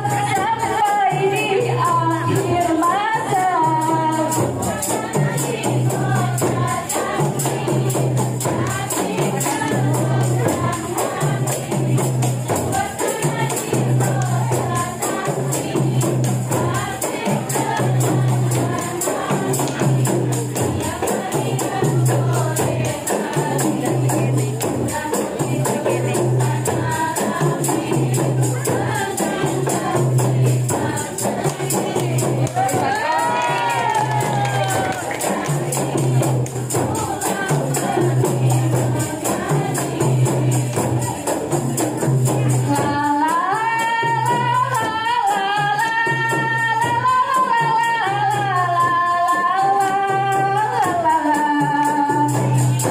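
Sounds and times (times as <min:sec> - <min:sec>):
tambourines shaking: 0:00.0 - 0:52.9
women singing in unison: 0:00.0 - 0:52.9.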